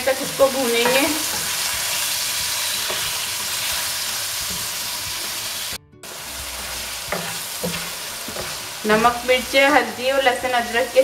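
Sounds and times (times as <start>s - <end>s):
liver sizzling in hot oil: 0.0s - 11.0s
spatula stirring: 0.1s - 5.5s, 6.2s - 9.7s.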